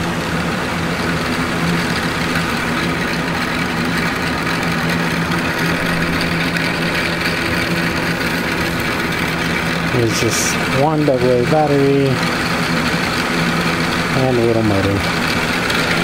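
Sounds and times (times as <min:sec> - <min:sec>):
small electric motor whirring: 0:00.0 - 0:16.0.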